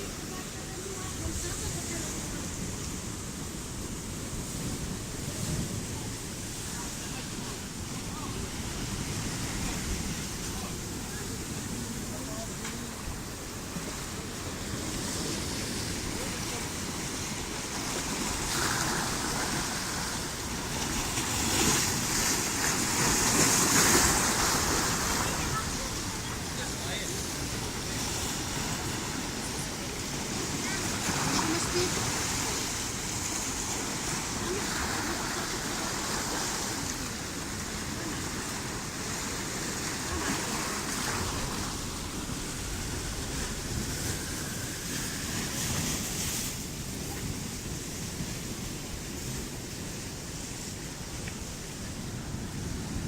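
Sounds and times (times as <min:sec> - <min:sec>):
sea surf washing in: 0:00.0 - 0:53.0
wind buffeting microphone: 0:00.0 - 0:53.0.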